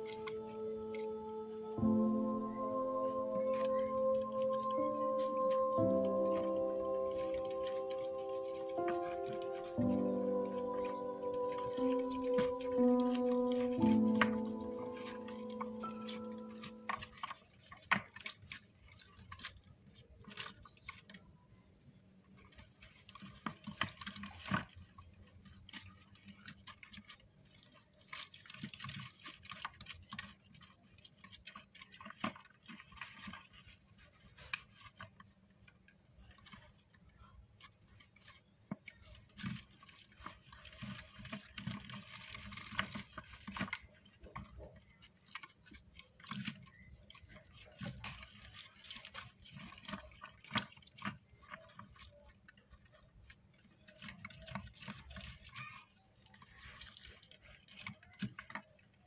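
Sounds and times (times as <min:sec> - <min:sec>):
hamsters scratching in plastic tub: 0:00.0 - 0:59.0
rustling wood shavings: 0:00.0 - 0:59.0.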